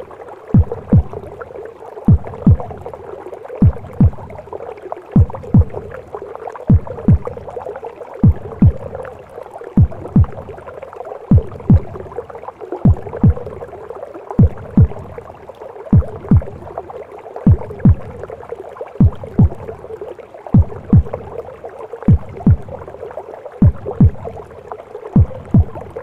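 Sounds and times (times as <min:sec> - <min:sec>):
heartbeat lub-dub: 0:00.5 - 0:01.4, 0:02.1 - 0:04.5, 0:05.1 - 0:10.7, 0:11.3 - 0:13.8, 0:14.4 - 0:18.4, 0:19.0 - 0:23.0, 0:23.6 - 0:24.6, 0:25.2 - 0:26.0.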